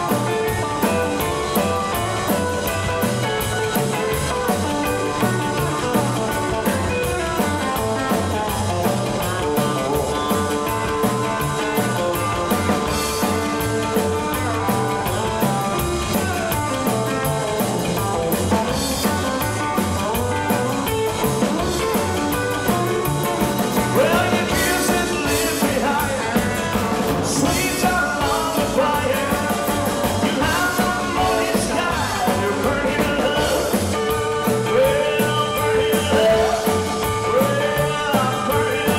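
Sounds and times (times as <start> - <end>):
man singing: 0.0 - 38.9
rock and roll band playing: 0.0 - 38.9.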